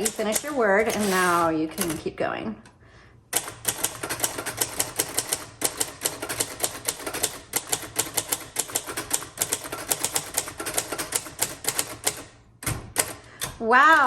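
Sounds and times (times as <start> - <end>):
manual typewriter typing: 0.0 - 2.2, 3.3 - 14.0.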